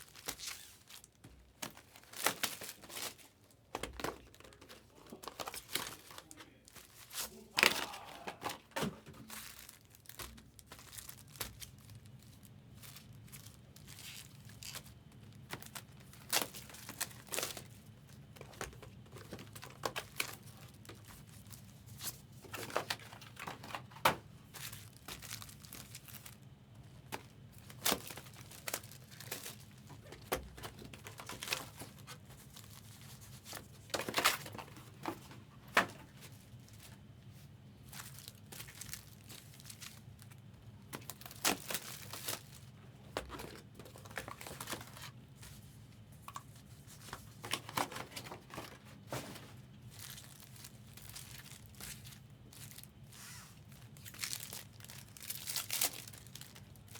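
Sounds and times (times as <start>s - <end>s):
packaging tearing and crinkling: 0.0s - 37.0s, 37.8s - 45.2s, 47.0s - 56.9s.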